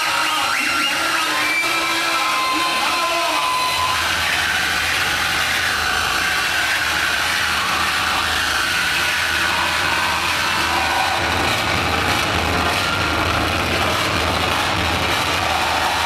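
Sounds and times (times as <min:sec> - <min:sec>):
harsh noise music: 0:00.0 - 0:16.0.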